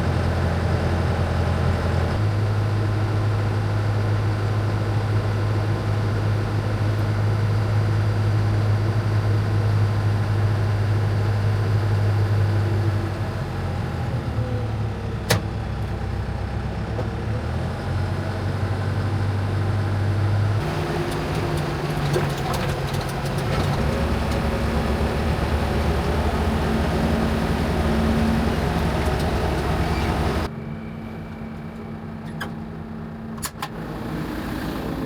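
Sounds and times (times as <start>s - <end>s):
motor vehicle engine running: 0.0s - 35.0s.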